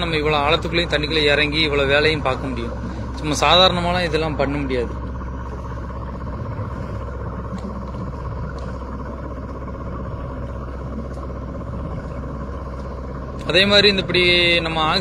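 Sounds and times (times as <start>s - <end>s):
underwater rumble: 0.0s - 15.0s.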